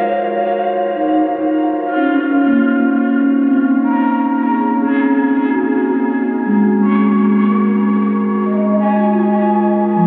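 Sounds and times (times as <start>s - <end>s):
ambient music of held notes: 0.0s - 10.0s.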